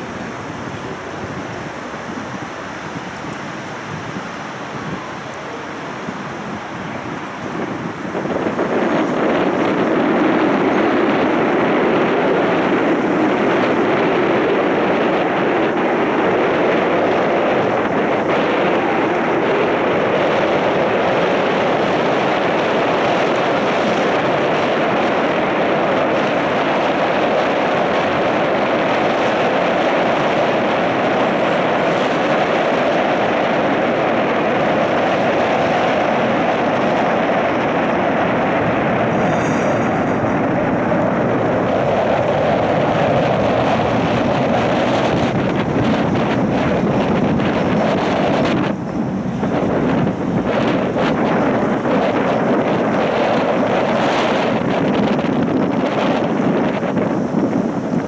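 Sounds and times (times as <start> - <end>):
boat engine drone: 0.0 - 58.0
water rushing: 0.0 - 58.0
wind across microphone: 0.0 - 58.0.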